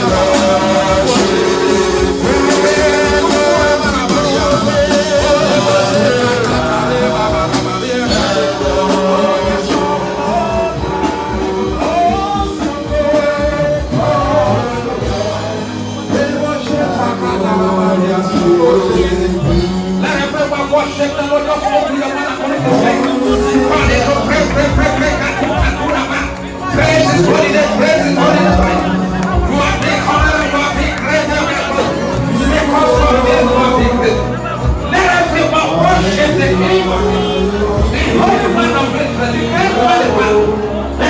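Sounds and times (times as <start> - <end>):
band with steady beat: 0.0 - 41.0
person singing: 0.0 - 41.0.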